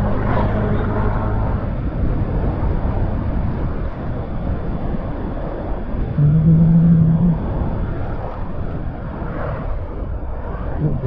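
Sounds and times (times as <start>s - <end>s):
low hum: 0.0s - 11.0s
road noise: 0.0s - 11.0s
wind rushing over microphone: 0.0s - 11.0s.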